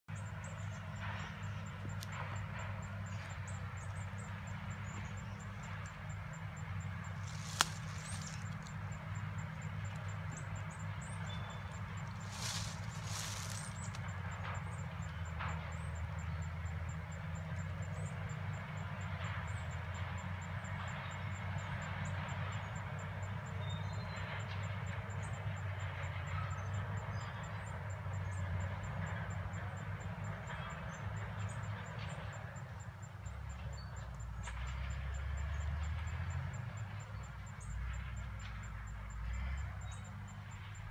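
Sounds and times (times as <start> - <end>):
distant bulldozer engines rumbling: 0.1 - 40.9.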